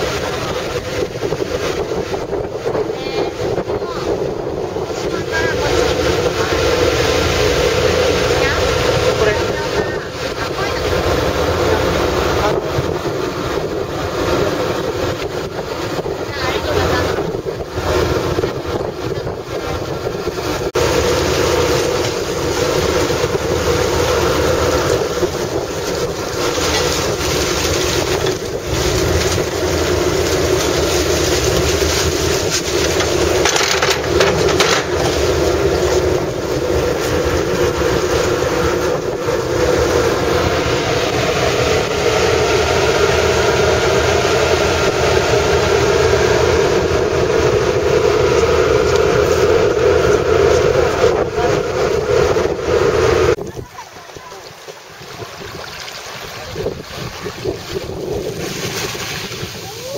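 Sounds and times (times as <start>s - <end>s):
ferry engine running: 0.0s - 59.9s
wind gusting across microphone: 0.0s - 59.9s.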